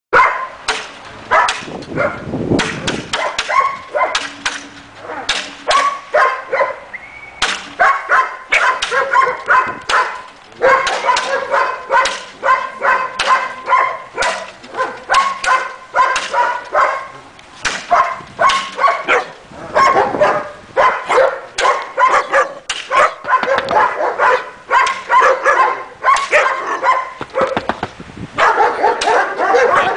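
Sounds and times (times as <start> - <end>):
puppies barking: 0.1 - 2.3, 3.1 - 17.2, 17.8 - 27.8, 28.4 - 29.9.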